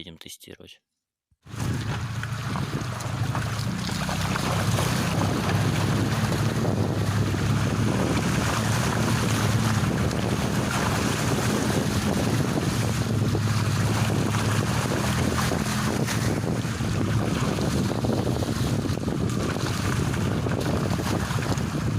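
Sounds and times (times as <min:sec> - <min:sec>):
car engine hum: 0:01.5 - 0:21.9
road and wind noise: 0:01.5 - 0:21.9.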